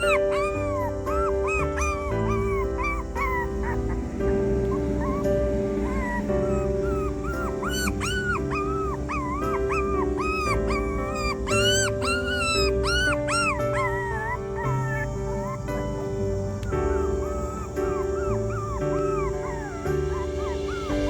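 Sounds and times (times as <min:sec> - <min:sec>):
background music: 0:00.0 - 0:21.0
dog whining: 0:00.0 - 0:21.0.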